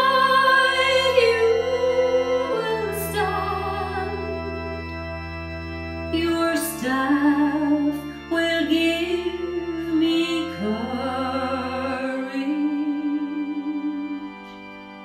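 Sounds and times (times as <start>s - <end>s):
person singing a hymn: 0.0s - 5.1s, 6.1s - 15.0s
organ chords: 0.0s - 15.0s.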